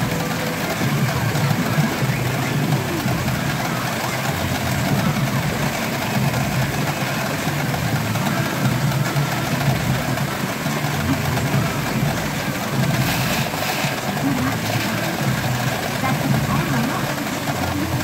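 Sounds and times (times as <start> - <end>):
pachinko machines running: 0.0 - 18.0.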